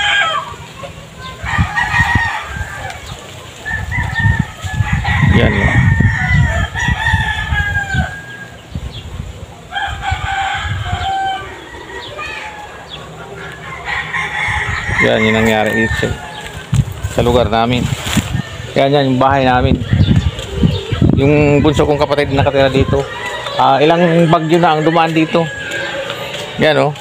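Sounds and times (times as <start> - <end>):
roosters crowing: 0.0 - 27.0.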